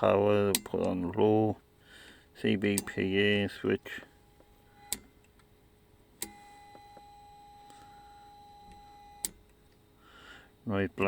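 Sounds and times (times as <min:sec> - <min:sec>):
faint steady tone: 0:00.0 - 0:11.0.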